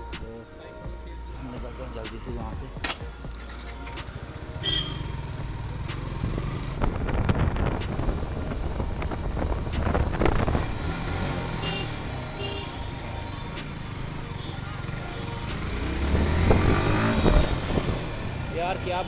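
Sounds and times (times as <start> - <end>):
road and wind noise: 0.0 - 19.0
motorcycle engine revving: 3.2 - 19.0.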